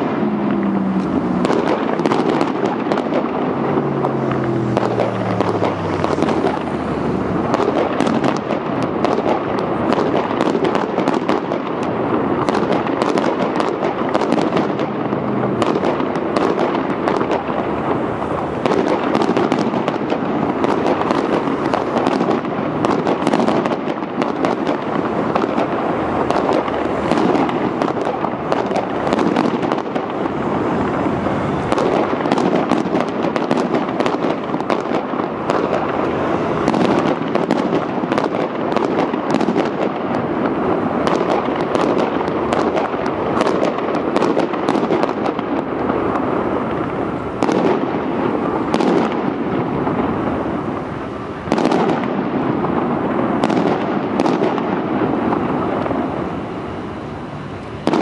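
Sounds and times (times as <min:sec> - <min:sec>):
fireworks booming: 0:00.0 - 0:58.0
fireworks crackling bangs: 0:00.0 - 0:58.0.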